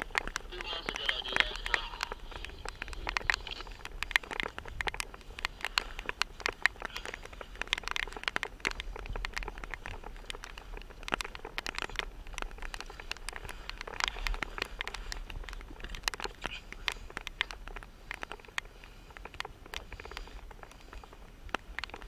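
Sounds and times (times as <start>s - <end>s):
raindrops ticking: 0.0s - 22.0s
steady low rumble: 0.0s - 22.0s.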